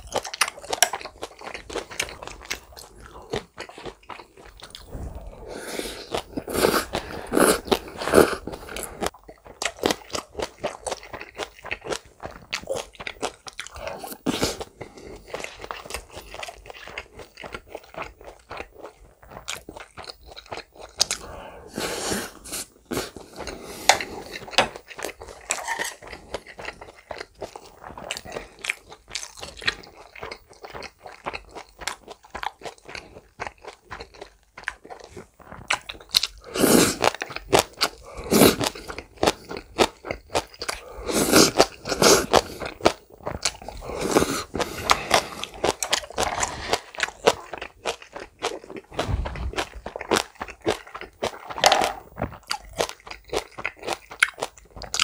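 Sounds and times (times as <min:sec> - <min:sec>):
close-miked chewing: 0:00.0 - 0:21.6, 0:22.3 - 0:55.0.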